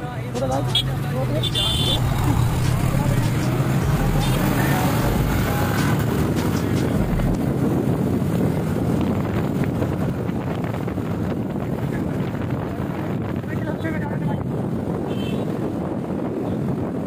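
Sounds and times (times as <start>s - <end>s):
wind rushing over microphone: 0.0s - 17.0s
motorcycle running noise: 0.4s - 14.9s.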